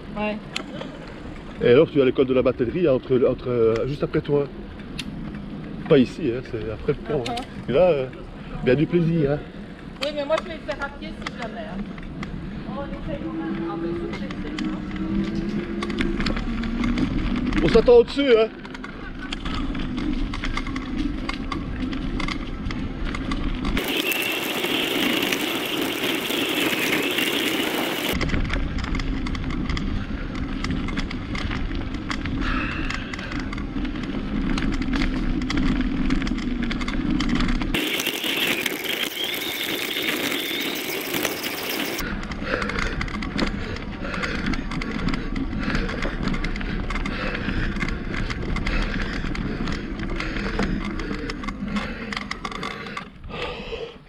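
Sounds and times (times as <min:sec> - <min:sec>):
tyres rolling on gravel: 0:00.2 - 0:53.0.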